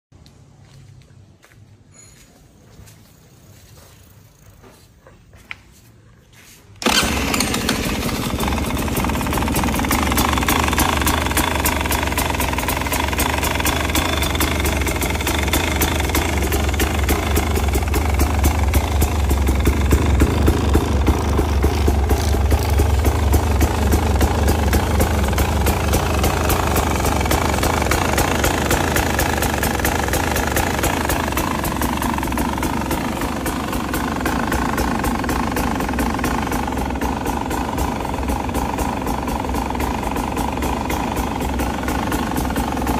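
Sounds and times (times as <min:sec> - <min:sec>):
dirt bike engine idling: 0:06.8 - 0:42.9.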